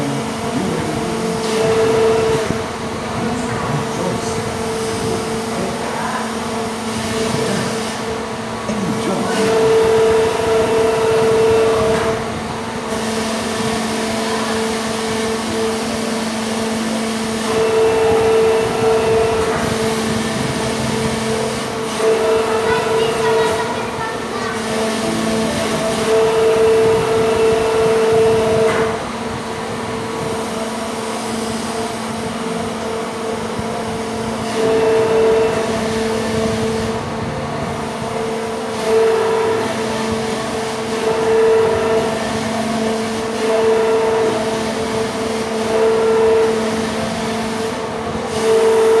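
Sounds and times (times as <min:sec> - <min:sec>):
amusement ride mechanical hum: 0:00.0 - 0:49.0.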